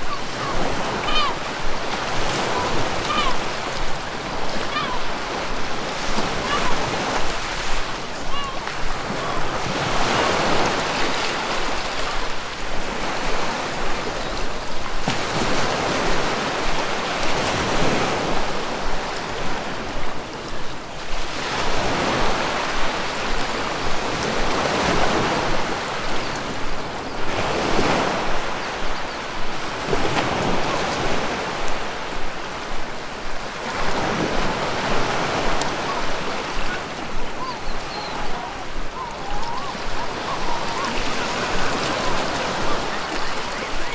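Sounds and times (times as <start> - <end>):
ocean surf washing: 0.0 - 43.9.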